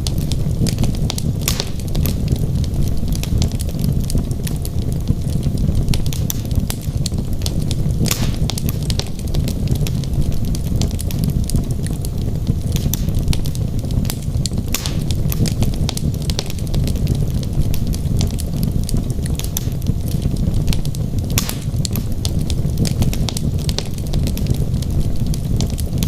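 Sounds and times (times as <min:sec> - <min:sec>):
fire crackling and popping: 0:00.0 - 0:26.0
fire rumbling: 0:00.0 - 0:26.0.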